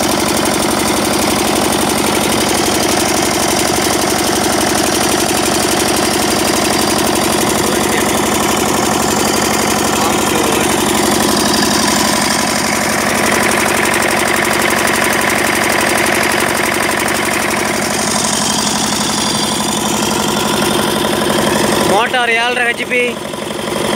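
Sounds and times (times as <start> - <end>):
diesel generator running: 0.0 - 23.9.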